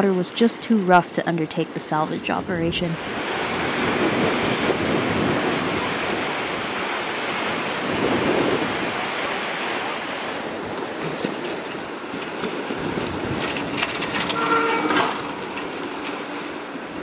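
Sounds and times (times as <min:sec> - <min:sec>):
strong wind: 0:01.6 - 0:17.0
surf breaking on seawall: 0:03.0 - 0:17.0.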